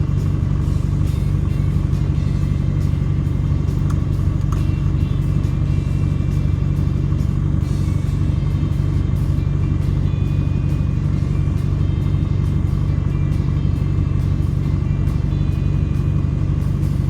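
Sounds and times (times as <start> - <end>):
low engine drone: 0.0 - 17.0
music: 0.0 - 17.0.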